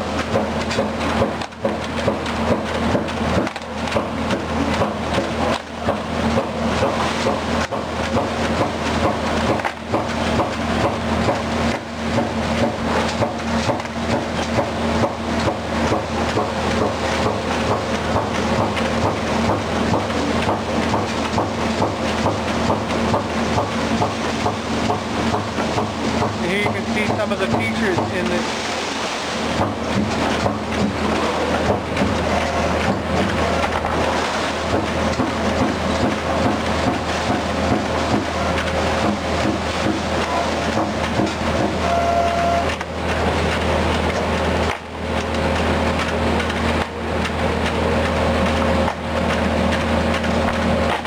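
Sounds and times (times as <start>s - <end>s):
machine humming: 0.0s - 51.0s
press clicking and knocking: 0.2s - 28.4s, 29.5s - 51.0s.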